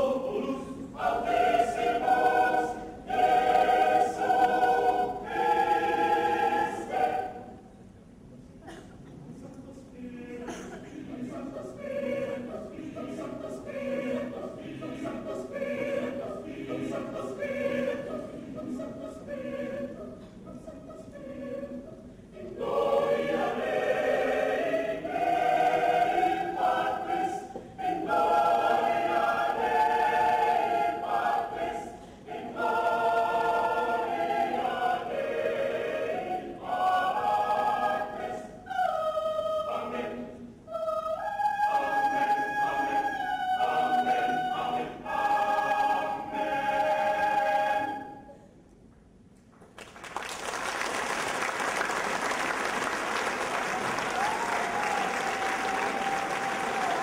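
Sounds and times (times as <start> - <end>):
mixed choir singing: 0.0 - 7.8, 9.9 - 48.5, 51.9 - 57.0.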